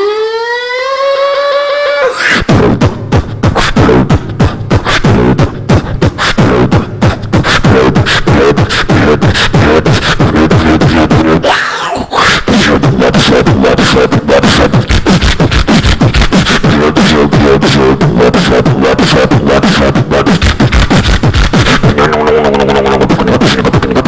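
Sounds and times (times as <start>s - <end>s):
beatboxing into microphone: 1.7s - 24.0s
deep bass tones: 2.4s - 11.6s, 12.4s - 24.0s.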